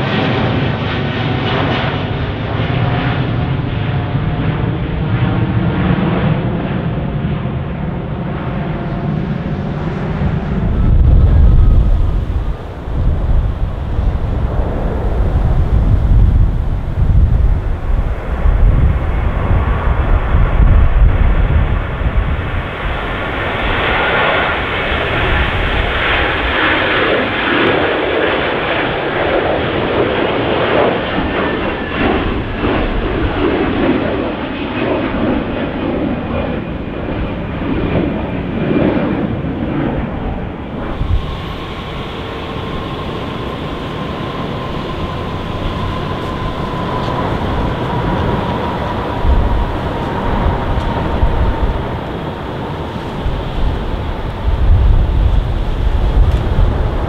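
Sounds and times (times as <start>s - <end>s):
jet engines roaring: 0.0s - 57.0s
wind buffeting microphone: 0.0s - 57.0s.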